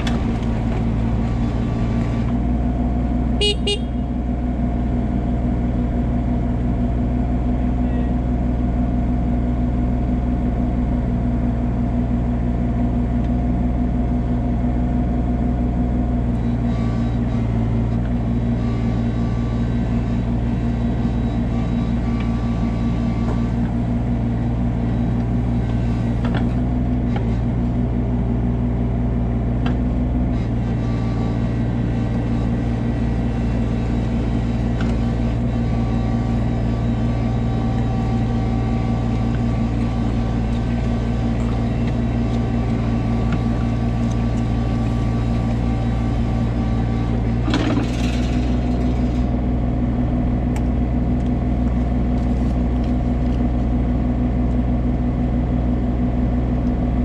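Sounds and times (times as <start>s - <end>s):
plow blade pushing wood chips: 0.0s - 3.4s, 4.1s - 57.0s
excavator diesel engine running: 0.0s - 57.0s.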